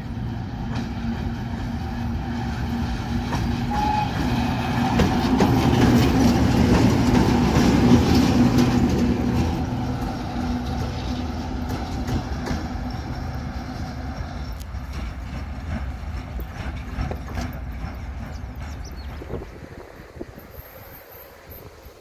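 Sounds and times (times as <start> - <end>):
locomotive engine hum: 0.0 - 22.0
wheels clicking on rails: 0.6 - 22.0.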